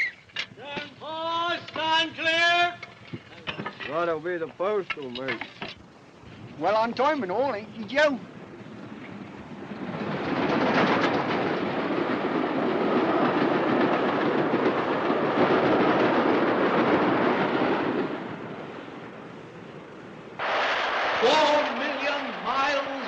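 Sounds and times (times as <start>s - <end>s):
train wheels clattering on rail: 0.0s - 5.9s, 8.4s - 23.0s.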